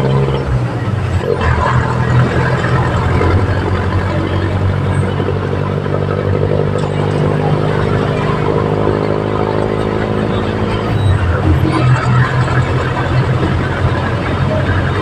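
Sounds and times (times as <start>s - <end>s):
diesel engine running: 0.0s - 15.0s
traffic road noise: 0.0s - 15.0s.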